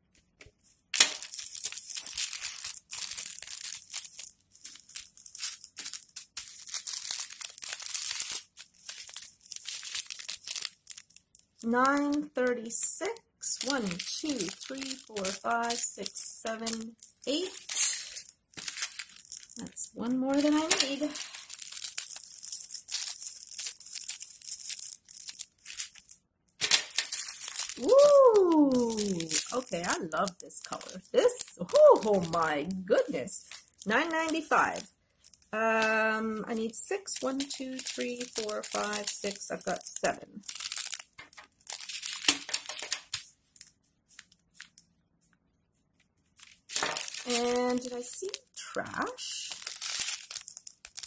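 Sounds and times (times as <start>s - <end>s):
plastic bags crinkling: 0.3s - 44.9s, 46.2s - 51.0s.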